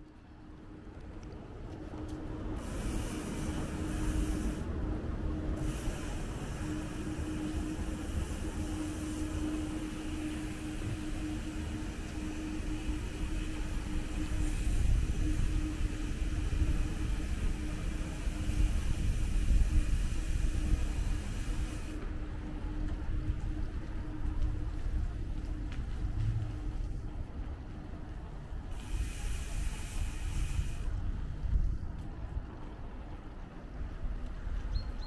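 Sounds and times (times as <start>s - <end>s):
steady low hum: 0.0s - 34.7s
street noise rumble and hiss: 0.0s - 35.0s.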